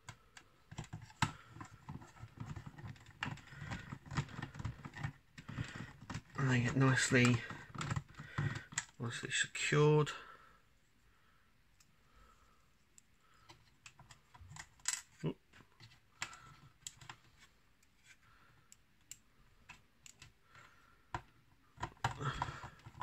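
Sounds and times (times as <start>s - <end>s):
handling plastic parts: 0.0s - 9.1s, 12.9s - 23.0s.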